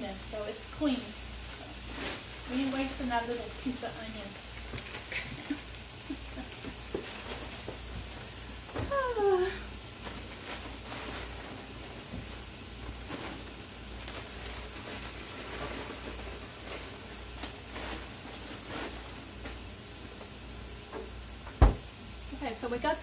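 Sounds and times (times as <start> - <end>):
vegetables sizzling in a frying pan: 0.0 - 23.0.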